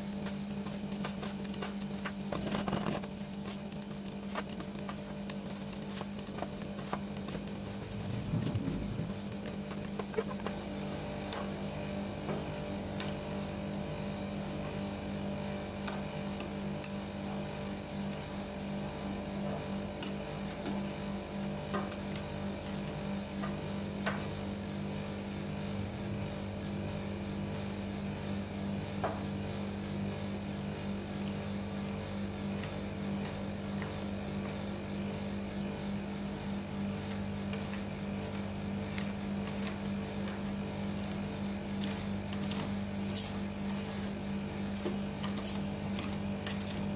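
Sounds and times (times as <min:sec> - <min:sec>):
refrigeration unit humming: 0:00.0 - 0:46.9.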